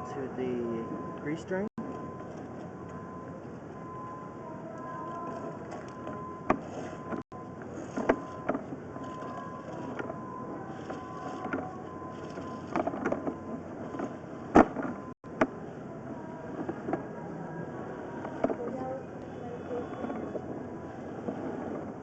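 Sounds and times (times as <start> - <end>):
faint steady whine: 0.0 - 22.0.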